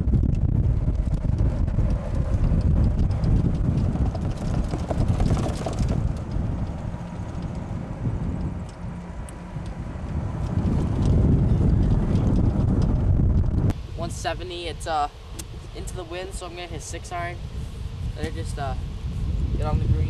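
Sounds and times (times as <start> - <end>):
golf cart rumble: 0.0 - 20.0
wind buffeting microphone: 0.0 - 20.0.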